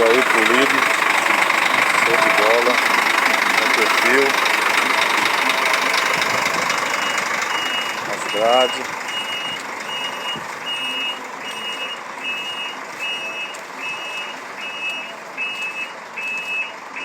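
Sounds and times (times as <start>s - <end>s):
truck reversing alarm beeping: 0.0s - 17.0s.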